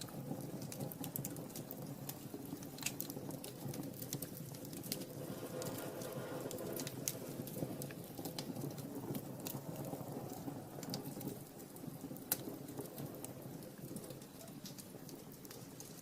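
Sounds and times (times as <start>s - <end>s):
fire crackling and popping: 0.0s - 16.0s
low rush of flames: 0.0s - 16.0s.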